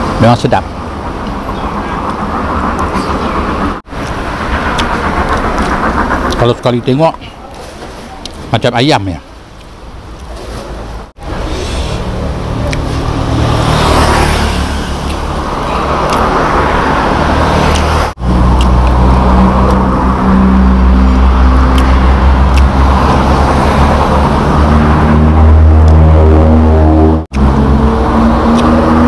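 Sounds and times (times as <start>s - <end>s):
engine hum: 0.0s - 8.4s, 9.5s - 29.0s
road traffic noise: 0.0s - 29.0s.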